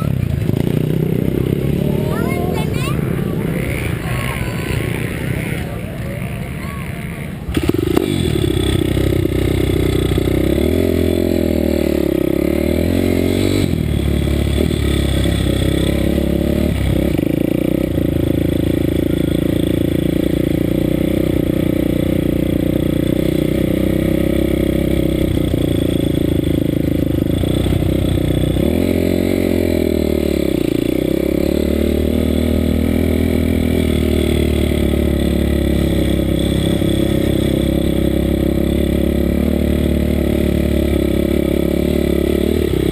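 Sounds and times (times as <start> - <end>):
motorbike engine revving high: 0.0 - 42.9.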